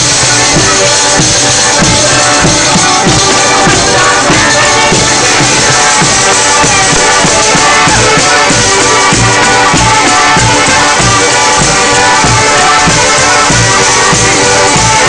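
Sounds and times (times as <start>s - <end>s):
held melody tones: 0.0s - 15.0s
tambourines fast beat: 0.0s - 15.0s.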